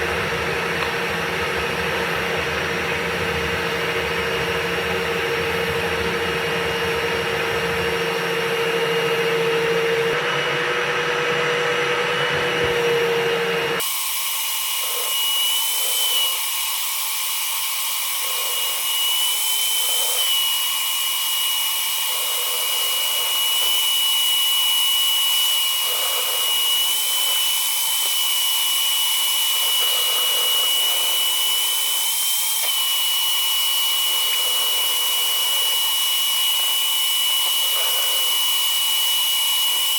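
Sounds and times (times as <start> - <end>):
drill motor whine: 0.0 - 39.9.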